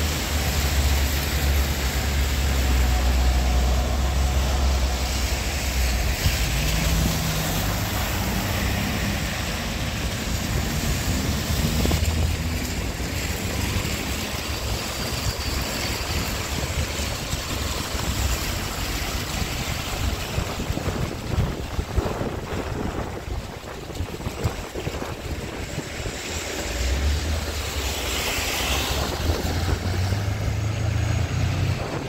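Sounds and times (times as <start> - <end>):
tyres hissing through water: 0.0 - 31.2
car engines running: 0.0 - 32.0.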